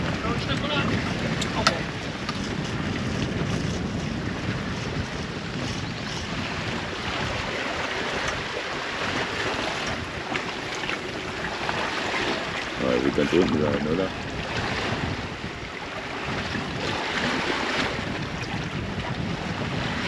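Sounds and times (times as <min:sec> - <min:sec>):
sea water splashing: 0:00.0 - 0:20.0
wind buffeting microphone: 0:00.0 - 0:20.0.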